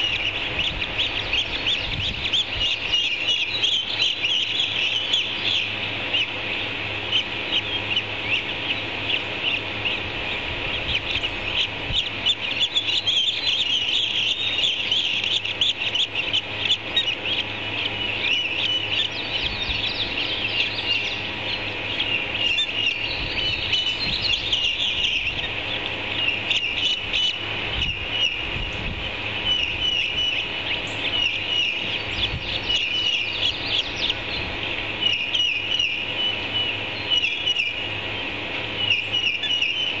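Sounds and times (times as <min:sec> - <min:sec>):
birds chirping: 0:00.0 - 0:40.0
steady low hum: 0:00.0 - 0:40.0.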